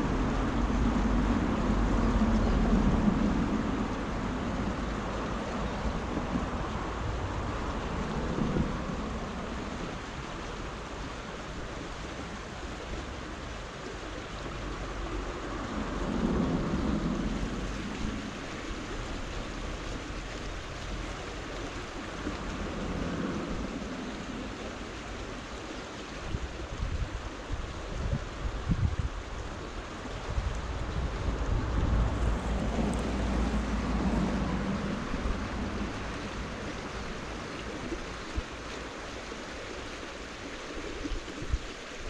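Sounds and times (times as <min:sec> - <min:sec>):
stream flowing water: 0:00.0 - 0:42.0
wind buffeting microphone: 0:00.0 - 0:42.0.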